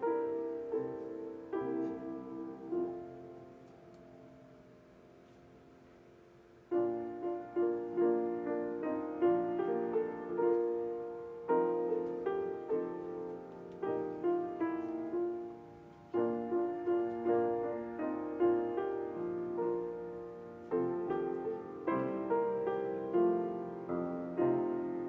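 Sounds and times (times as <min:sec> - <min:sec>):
slow gentle piano piece: 0:00.0 - 0:25.0.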